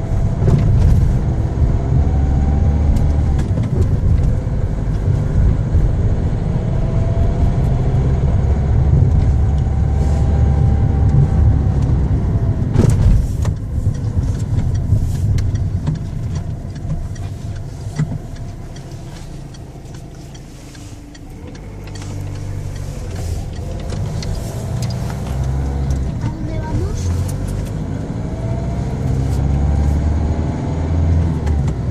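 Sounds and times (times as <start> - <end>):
faint engine whine: 0.0 - 30.1
car engine running: 0.0 - 31.9.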